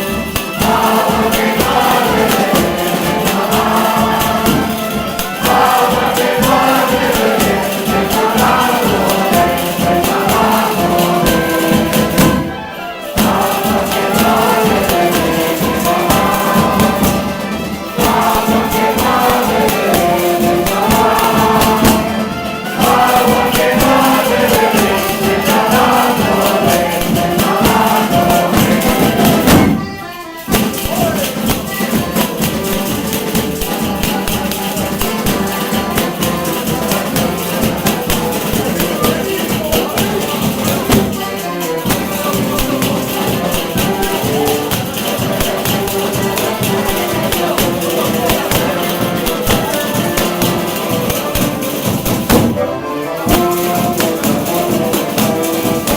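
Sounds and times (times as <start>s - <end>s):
fast tambourine rhythm: 0.0s - 55.9s
group of people singing: 0.0s - 55.9s.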